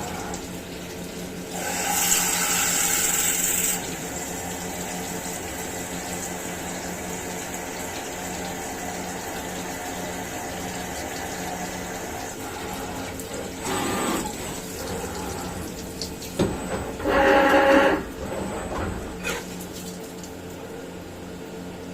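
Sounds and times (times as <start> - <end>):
coolant flowing: 0.0 - 21.9
milling machine humming: 0.0 - 21.9.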